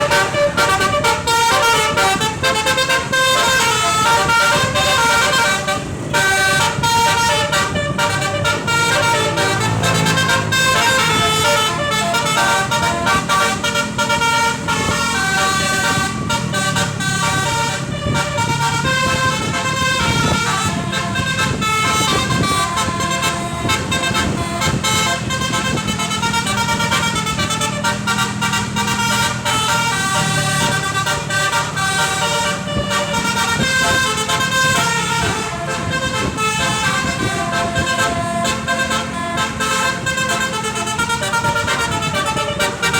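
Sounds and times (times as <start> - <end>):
bus engine running: 0.0 - 42.9
musical bus horn tune: 0.0 - 42.9.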